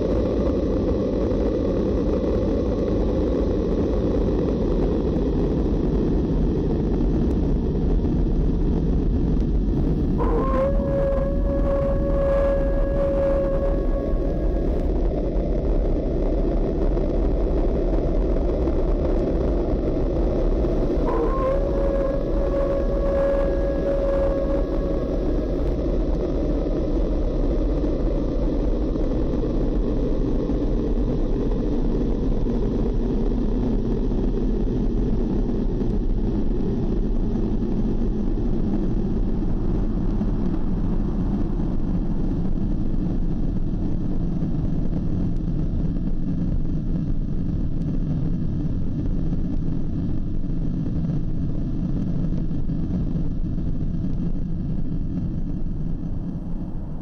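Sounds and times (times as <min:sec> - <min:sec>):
dense rumbling drone: 0:00.0 - 0:57.0.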